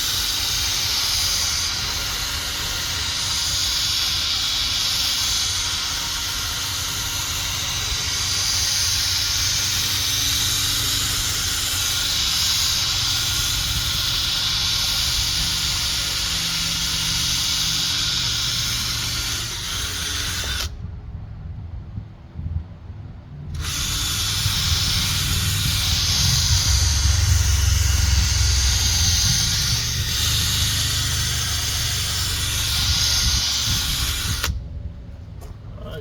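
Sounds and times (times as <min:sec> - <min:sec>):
polishing pad whirring: 0:00.0 - 0:21.0, 0:23.4 - 0:36.0.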